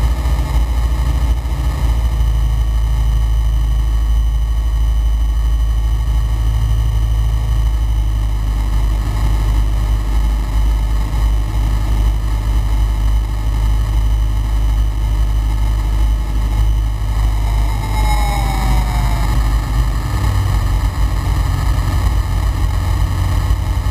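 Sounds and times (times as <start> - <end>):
light aircraft engine droning: 0.0 - 23.9.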